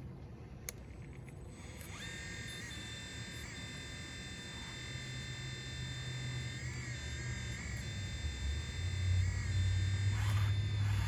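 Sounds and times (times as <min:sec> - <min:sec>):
electric hydraulic pump whining: 0:01.5 - 0:11.0.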